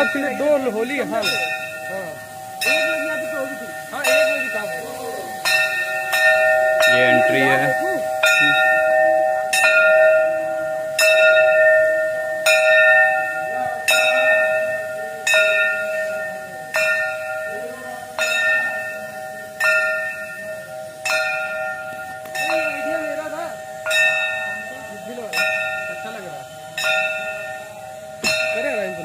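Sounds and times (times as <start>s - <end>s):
temple bell ringing: 0.0s - 29.0s.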